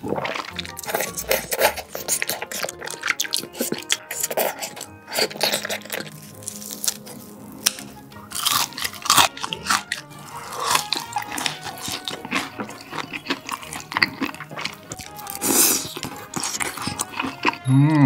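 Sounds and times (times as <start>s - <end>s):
crunchy chewing: 0.0s - 17.7s
background music: 0.0s - 18.0s.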